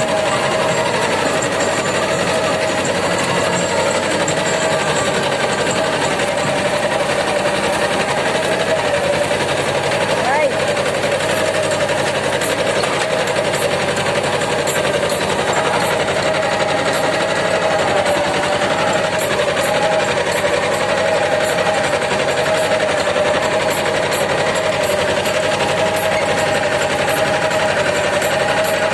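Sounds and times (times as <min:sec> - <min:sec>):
tractor diesel engine clattering: 0:00.0 - 0:28.9.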